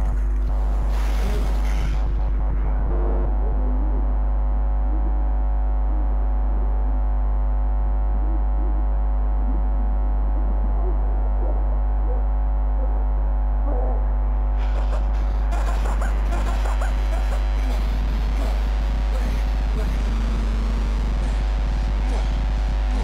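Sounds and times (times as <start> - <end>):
low drone hum: 0.0 - 23.0.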